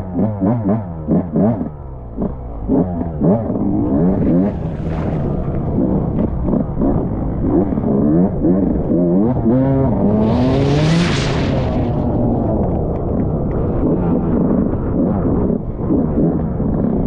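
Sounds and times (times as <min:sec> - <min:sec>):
off-road motorcycle engine revving: 0:00.0 - 0:17.0.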